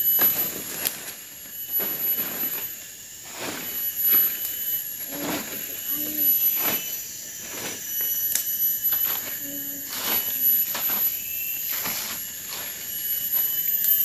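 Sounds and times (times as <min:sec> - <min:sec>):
dry leaves crackling and rustling: 0:00.0 - 0:14.0
insects chorus: 0:00.0 - 0:14.0.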